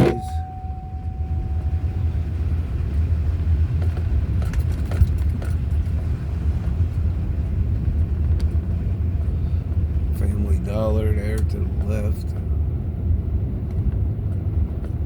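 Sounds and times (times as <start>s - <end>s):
vehicle rumbling on snowy road: 0.0s - 15.0s.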